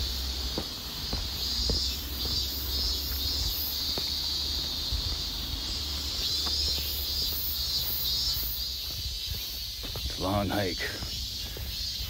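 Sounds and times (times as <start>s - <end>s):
cicadas calling: 0.0s - 12.0s
footsteps on paved road: 0.0s - 12.0s.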